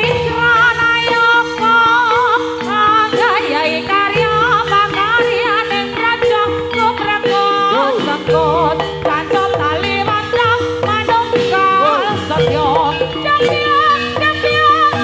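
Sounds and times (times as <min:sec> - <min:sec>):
wavering sliding melody: 0:00.0 - 0:15.0.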